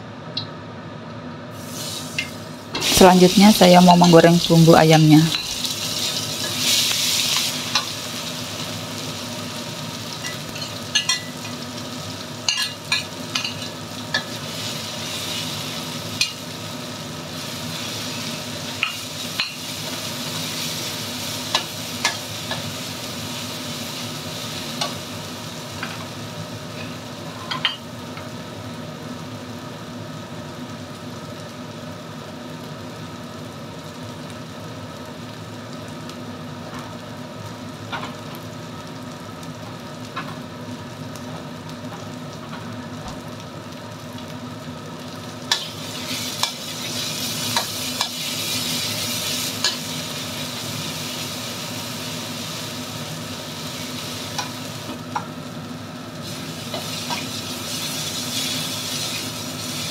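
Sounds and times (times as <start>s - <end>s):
spice paste sizzling in oil: 1.5s - 59.9s.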